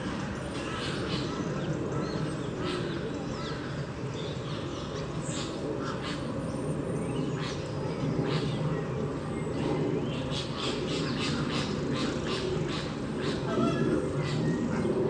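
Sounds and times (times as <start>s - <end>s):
birds squawking and chirping: 0.0s - 15.0s.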